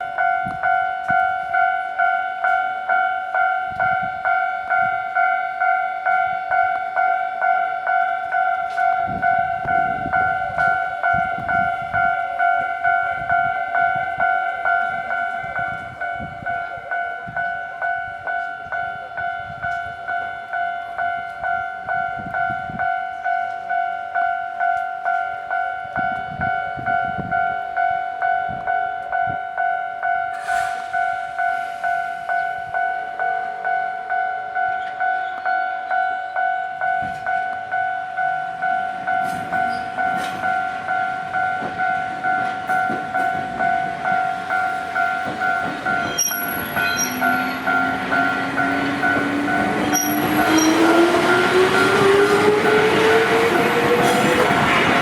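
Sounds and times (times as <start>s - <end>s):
level crossing alarm bell: 0.0s - 55.0s.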